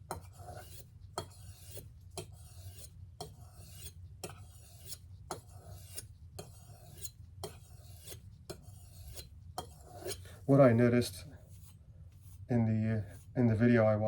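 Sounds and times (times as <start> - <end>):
knife rasping on sharpening stone: 0.1 - 13.3.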